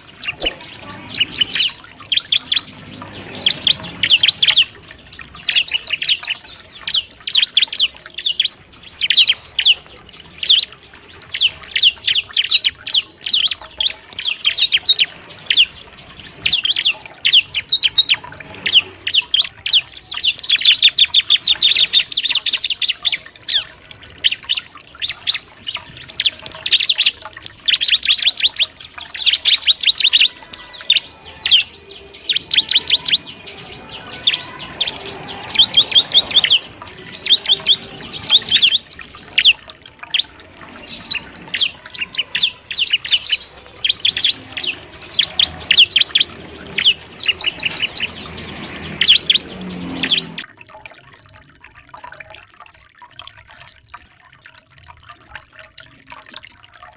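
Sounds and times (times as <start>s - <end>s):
bird singing high chirping phrases: 0.0s - 56.9s.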